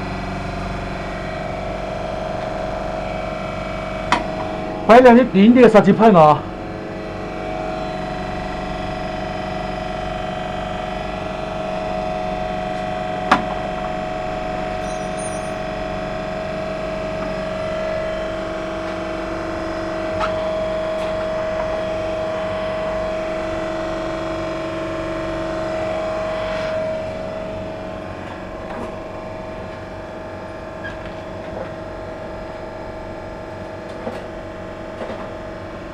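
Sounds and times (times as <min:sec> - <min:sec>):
machine hum with whine: 0:00.0 - 0:35.9.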